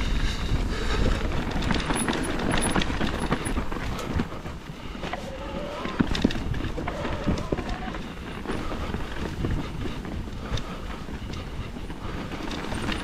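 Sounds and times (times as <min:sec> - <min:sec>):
bike rattling over bumps: 0:00.0 - 0:13.0
bike tyres rumbling over dirt: 0:00.0 - 0:13.0.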